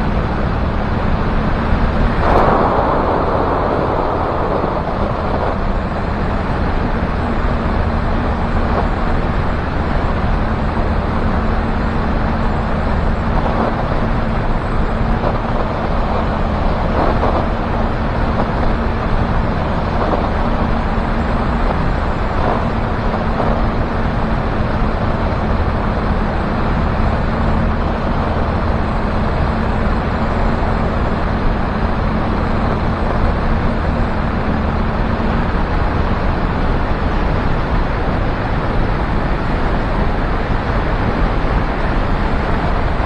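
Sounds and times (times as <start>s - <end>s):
propeller engine running: 0.0s - 43.0s
wind rushing over microphone: 0.0s - 43.0s.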